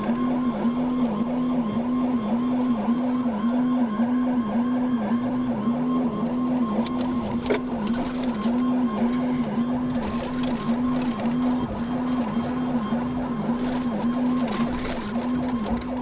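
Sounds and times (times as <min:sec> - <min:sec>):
car engine and road noise: 0:00.0 - 0:16.0
police siren warbling: 0:00.0 - 0:16.0.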